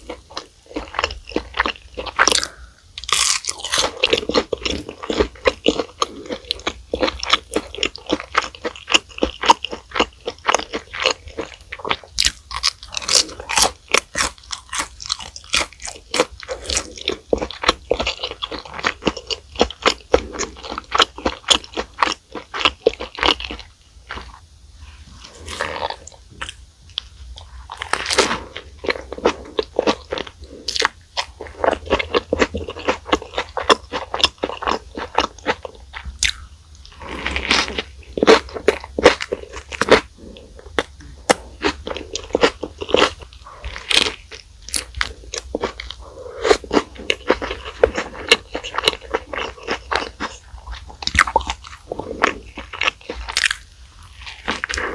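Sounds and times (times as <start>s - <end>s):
crunchy bites and chewing: 0.0s - 54.9s.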